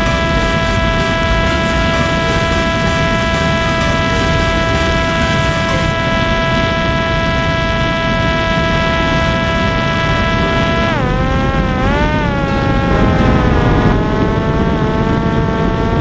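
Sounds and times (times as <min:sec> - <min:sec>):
drone motor whining: 0:00.0 - 0:16.0
rushing airflow: 0:00.0 - 0:16.0.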